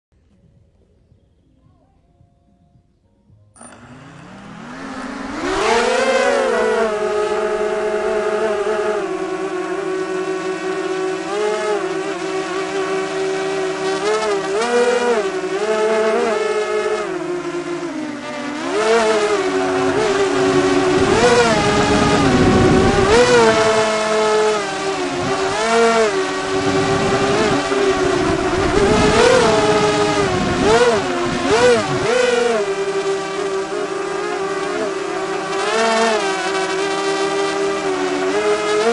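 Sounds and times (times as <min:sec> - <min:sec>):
drone propellers whining: 0:03.6 - 0:38.9.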